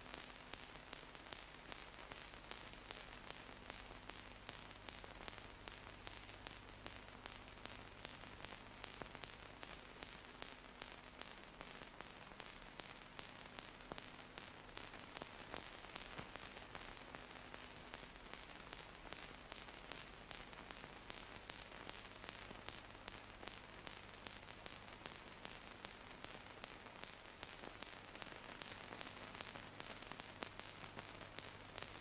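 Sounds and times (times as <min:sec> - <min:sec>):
film hiss: 0:00.0 - 0:32.0
small crackling clicks: 0:00.0 - 0:32.0.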